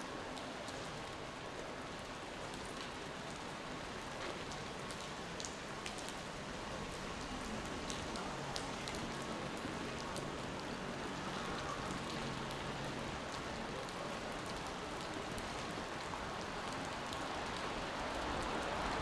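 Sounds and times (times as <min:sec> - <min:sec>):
rain on street: 0:00.0 - 0:19.0.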